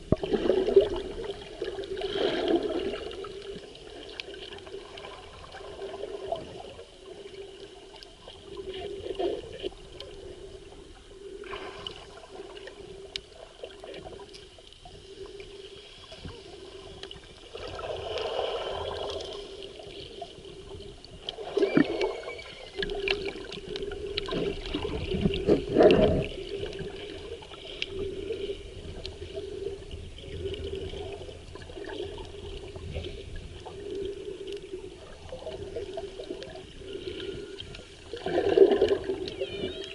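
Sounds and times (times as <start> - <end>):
muffled water sloshing and bubbling: 0.0 - 39.9.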